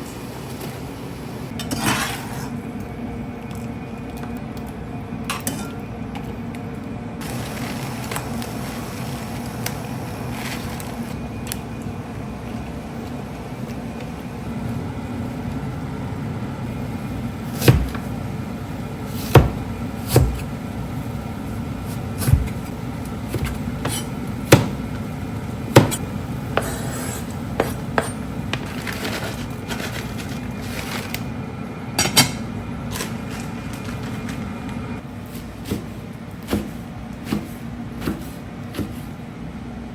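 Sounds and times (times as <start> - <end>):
steady low hum: 2.4 - 39.9.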